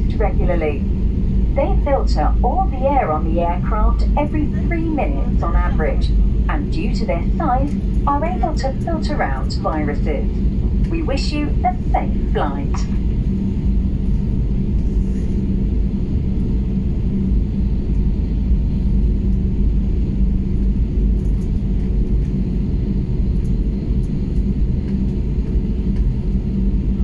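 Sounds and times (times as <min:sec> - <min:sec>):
airliner cabin rumble: 0:00.0 - 0:27.0
steady cabin hum: 0:00.0 - 0:27.0.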